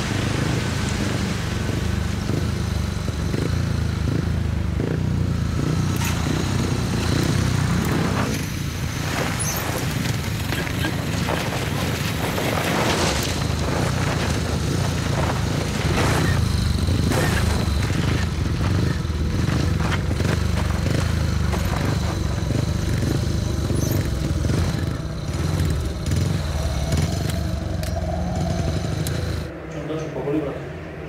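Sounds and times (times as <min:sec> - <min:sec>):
motorcycle engines droning: 0:00.0 - 0:31.0.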